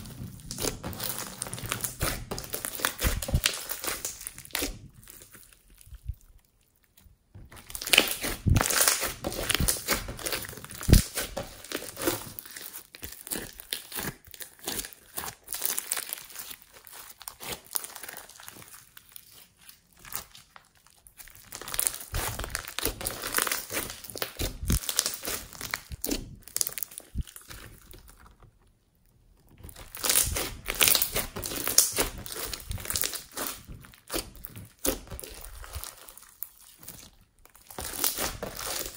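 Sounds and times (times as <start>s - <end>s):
slime crunchy crackling: 0.0s - 38.9s.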